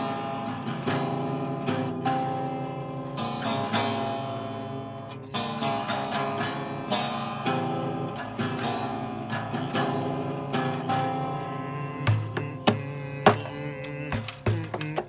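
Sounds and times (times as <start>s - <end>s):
acoustic guitar plucked: 0.0s - 15.0s.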